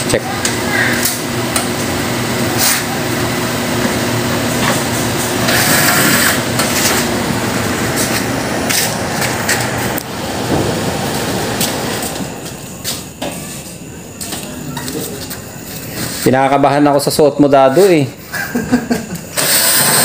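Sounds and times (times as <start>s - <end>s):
low machine hum: 0.0s - 19.3s.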